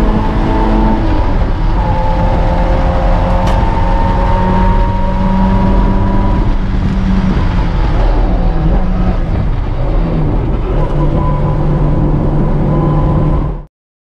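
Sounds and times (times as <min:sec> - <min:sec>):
car engine running hard: 0:00.0 - 0:13.7
road and wind noise: 0:00.0 - 0:13.7.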